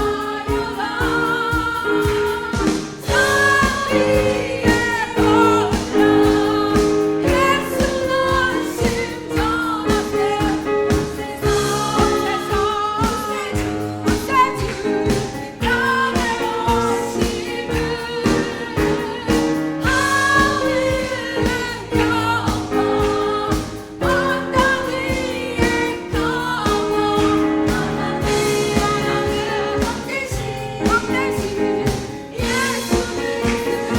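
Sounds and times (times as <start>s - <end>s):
vocal ensemble singing a carol: 0.0s - 33.9s.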